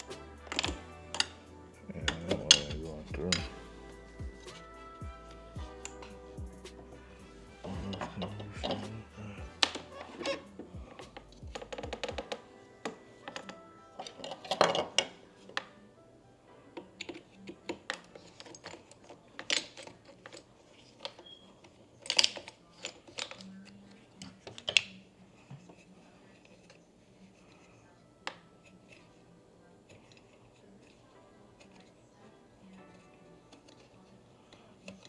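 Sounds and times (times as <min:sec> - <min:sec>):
small tools clicking and clattering: 0:00.0 - 0:05.0, 0:07.6 - 0:15.8, 0:16.8 - 0:29.2, 0:29.9 - 0:32.0, 0:32.6 - 0:35.0.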